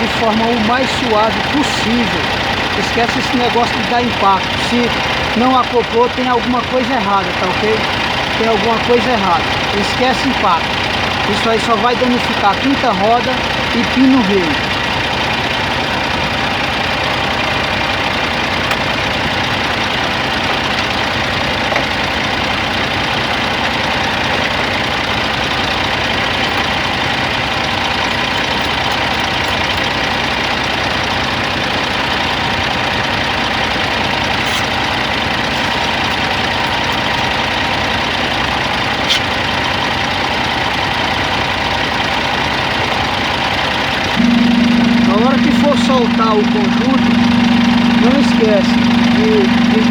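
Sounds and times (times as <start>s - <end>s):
truck diesel engine idling: 0.0s - 49.9s.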